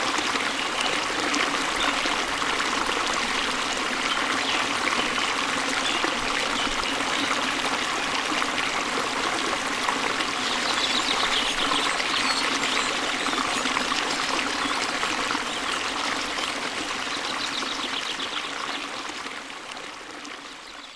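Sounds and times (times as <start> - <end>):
stream babbling over stones: 0.0 - 20.9.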